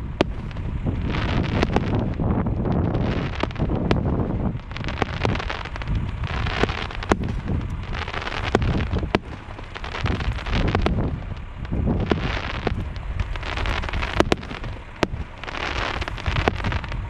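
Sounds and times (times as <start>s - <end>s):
fireworks bangs: 0.0s - 17.0s
fireworks crackling: 0.0s - 17.0s
wind rumbling on microphone: 0.0s - 17.0s.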